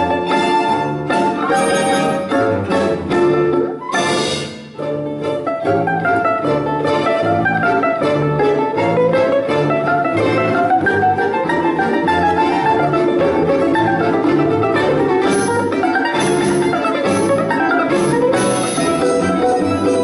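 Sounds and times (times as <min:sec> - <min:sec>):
balalaika orchestra playing folk music: 0:00.0 - 0:20.0.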